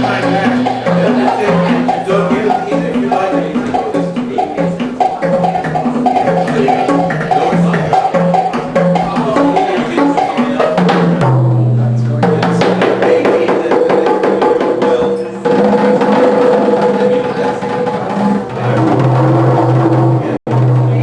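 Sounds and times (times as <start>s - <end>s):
fast drum and wood-block strokes: 0.0s - 21.0s
sustained pitched tones: 0.0s - 21.0s.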